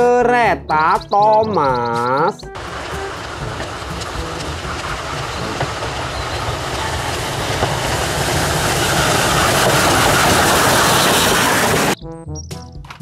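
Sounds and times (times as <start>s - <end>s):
steam train rumbling: 1.2s - 12.0s.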